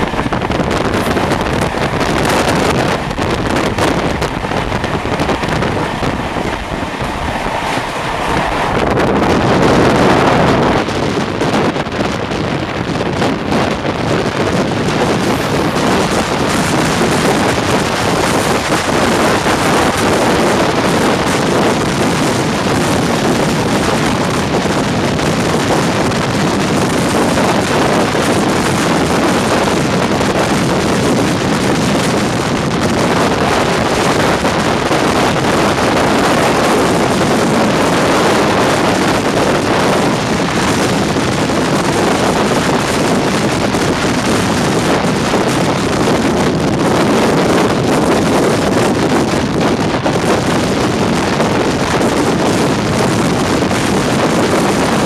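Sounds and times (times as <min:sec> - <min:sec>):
train running at speed: 0:00.0 - 0:55.0
wind buffeting microphone: 0:00.0 - 0:55.0.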